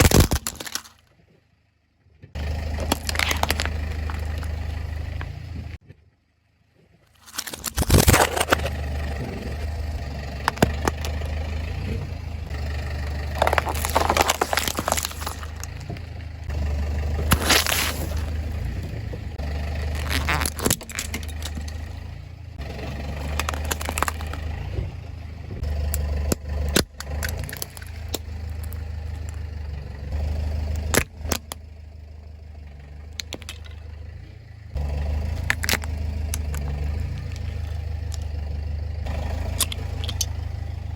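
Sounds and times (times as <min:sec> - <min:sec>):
tyres crushing objects: 0:00.0 - 0:01.0, 0:02.4 - 0:05.4, 0:07.1 - 0:25.0, 0:25.7 - 0:29.5, 0:30.6 - 0:31.6, 0:32.8 - 0:34.1, 0:35.1 - 0:40.9
car engine rumbling: 0:00.0 - 0:40.9.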